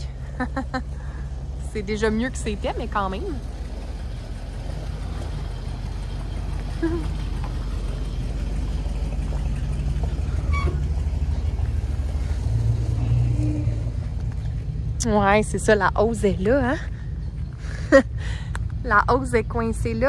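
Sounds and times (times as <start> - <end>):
motorhome engine rumbling: 0.0 - 20.0.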